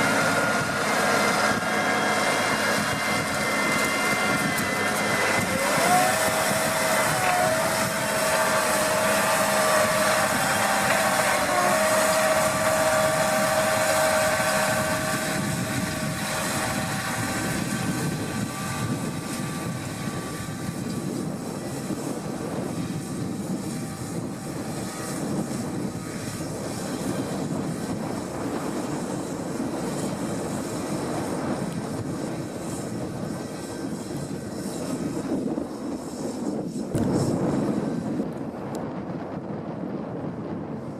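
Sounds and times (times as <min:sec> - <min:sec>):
tractor engine humming: 0:00.0 - 0:36.0
high whine: 0:00.0 - 0:39.5.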